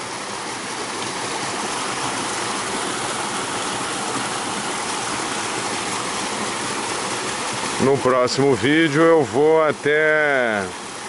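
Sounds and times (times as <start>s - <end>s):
creek water splashing: 0.0s - 11.0s.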